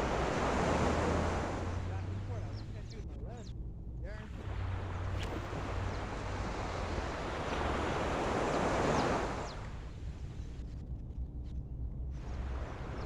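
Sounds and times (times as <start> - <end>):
low rumble of surf: 0.0 - 13.0.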